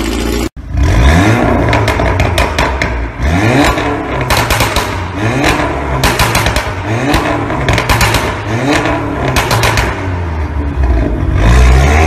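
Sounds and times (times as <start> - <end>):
engine running: 0.0 - 12.0
car exhaust revving with pops: 0.1 - 12.0.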